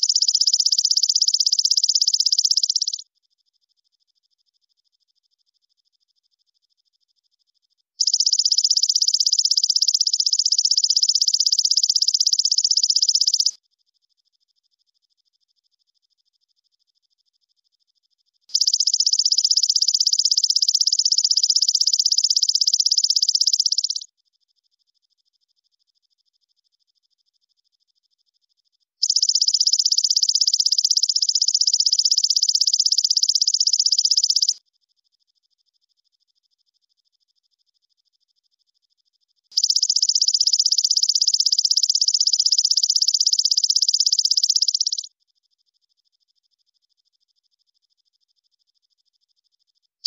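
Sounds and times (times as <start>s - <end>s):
insect high-pitched pulsing trill: 0.0s - 34.6s, 35.2s - 49.9s.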